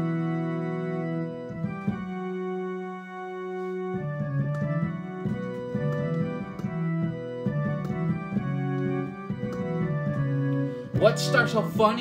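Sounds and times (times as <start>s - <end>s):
organ keyboard music: 0.0s - 12.0s.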